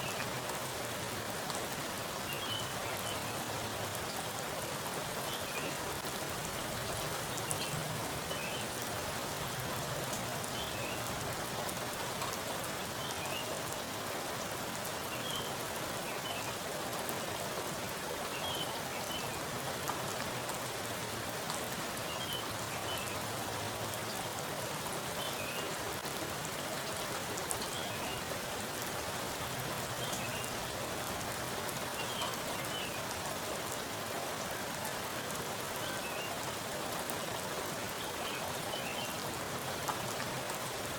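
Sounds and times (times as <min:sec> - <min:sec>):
heavy rain on water: 0:00.0 - 0:40.9.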